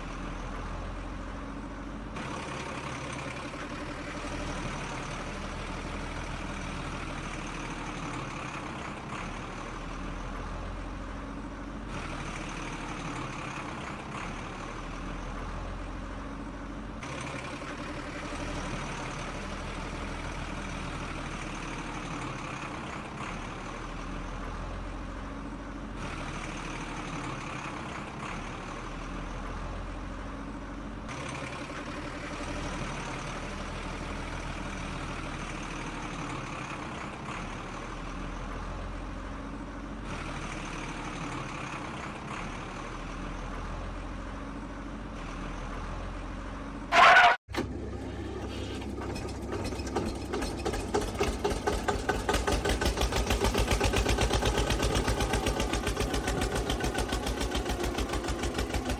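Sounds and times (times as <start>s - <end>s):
heavy truck engine idling: 0.0s - 58.9s.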